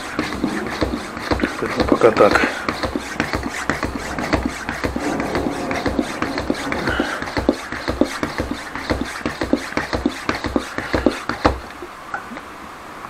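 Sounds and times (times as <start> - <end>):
bicycle pump strokes: 0.0 - 11.8.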